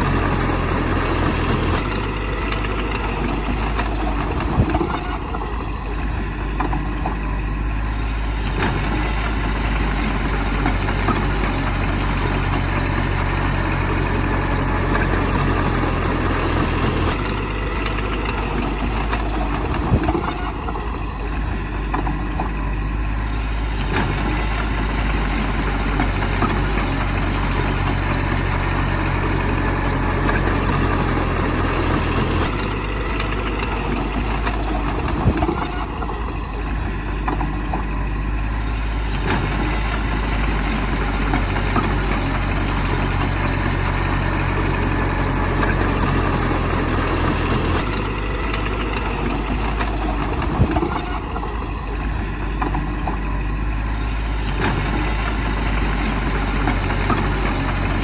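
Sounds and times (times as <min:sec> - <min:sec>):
diesel engine running: 0:00.0 - 0:58.0
engine knock: 0:00.0 - 0:58.0.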